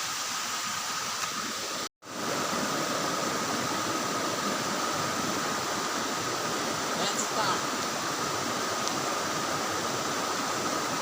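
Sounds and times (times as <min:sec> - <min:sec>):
waterfall and river rushing: 0:00.0 - 0:11.0.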